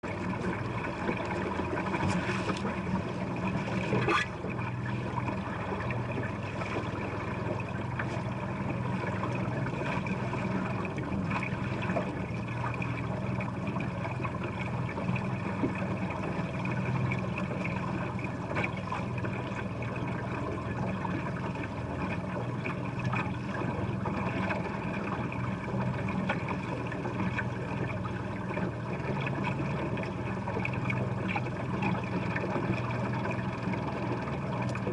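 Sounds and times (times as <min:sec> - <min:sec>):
boat motor running: 0:00.0 - 0:34.9.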